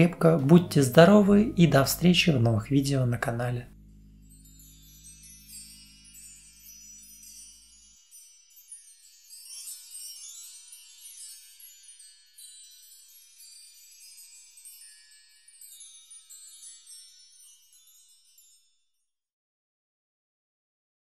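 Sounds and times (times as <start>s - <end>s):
shimmering chime tinkle: 0.0s - 19.1s.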